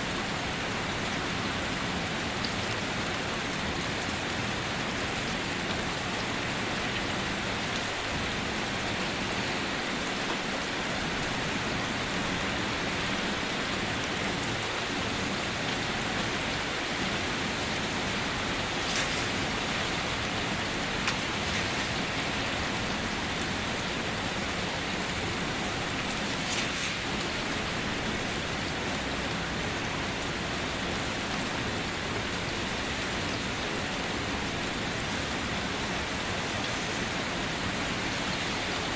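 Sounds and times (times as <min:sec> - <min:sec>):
individual raindrops: 0:00.0 - 0:38.9
steady rain hissing: 0:00.0 - 0:38.9.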